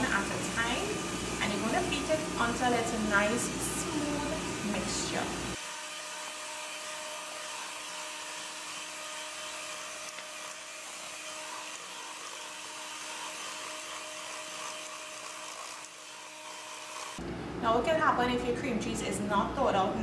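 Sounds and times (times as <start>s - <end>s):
electric hand mixer whirring: 0.0s - 17.2s.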